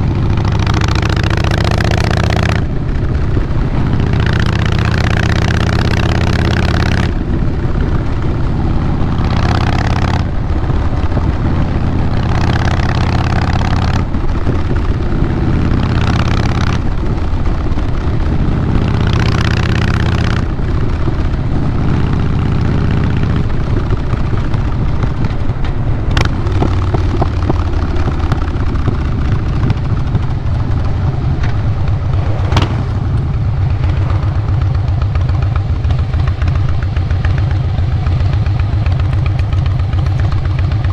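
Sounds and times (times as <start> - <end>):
motorcycle engine exhaust note: 0.0 - 40.9.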